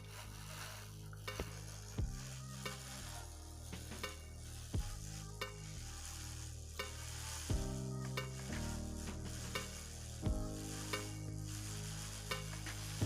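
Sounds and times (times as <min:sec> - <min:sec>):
background music with chords: 0:00.0 - 0:13.0
steady hiss: 0:00.0 - 0:13.0.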